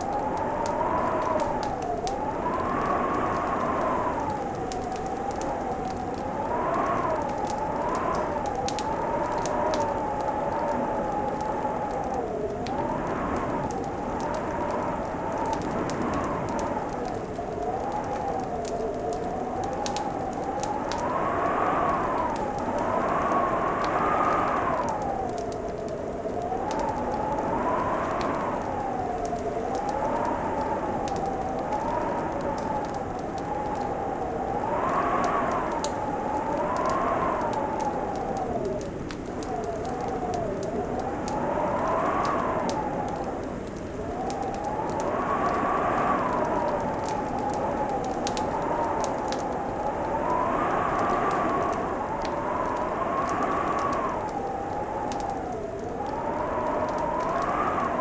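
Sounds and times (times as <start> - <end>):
fireplace crackling: 0.0 - 58.0.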